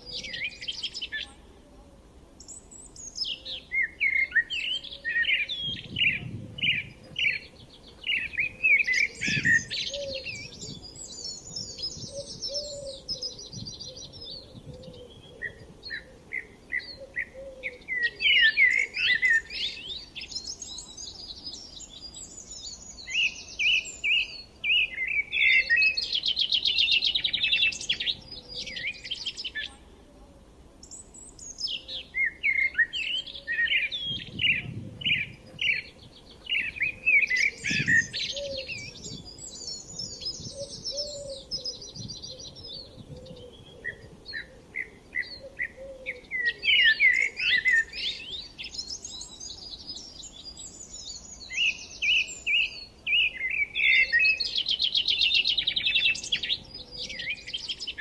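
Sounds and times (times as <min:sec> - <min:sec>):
songbirds chirping and singing: 0:00.0 - 0:01.6, 0:02.4 - 0:58.0.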